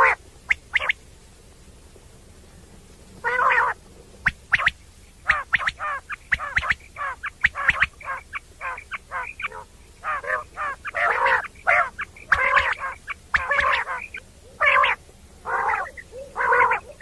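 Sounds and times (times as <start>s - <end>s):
quail calling: 0.0s - 1.1s, 3.2s - 17.0s.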